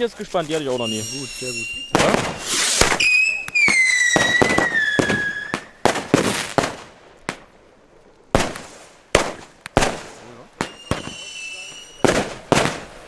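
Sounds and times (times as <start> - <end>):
firecrackers banging: 0.4 - 7.5, 8.4 - 13.0.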